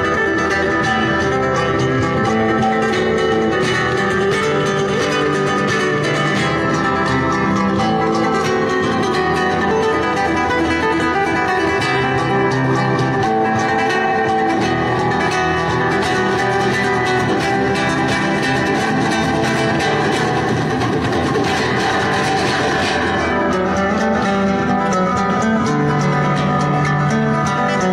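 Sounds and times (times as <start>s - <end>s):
flamenco acoustic guitar: 0.0s - 27.9s.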